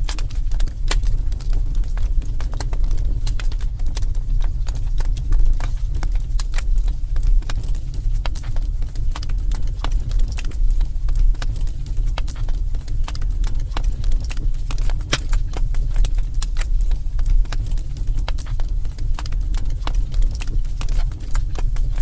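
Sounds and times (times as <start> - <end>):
fire crackling and popping: 0.0 - 22.0
low rumble of flame: 0.0 - 22.0.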